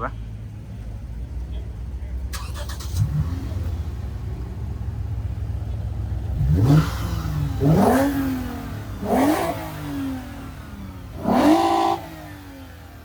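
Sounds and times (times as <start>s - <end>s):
car engine revving over idle: 0.0s - 13.0s.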